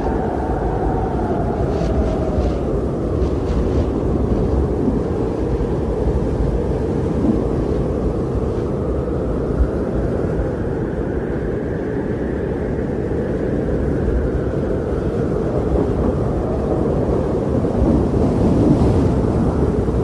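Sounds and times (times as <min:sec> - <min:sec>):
strong blizzard wind: 0:00.0 - 0:20.0.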